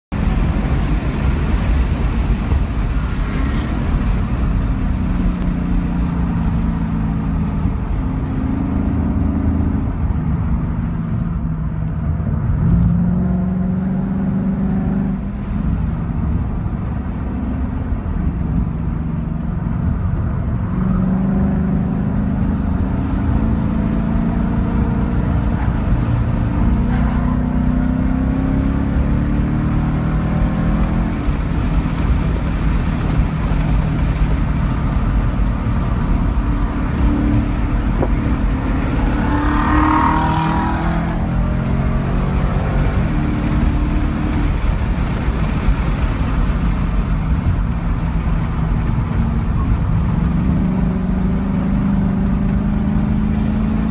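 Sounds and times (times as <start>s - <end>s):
road and wind noise: 0.0s - 53.9s
car engine accelerating: 0.1s - 53.9s.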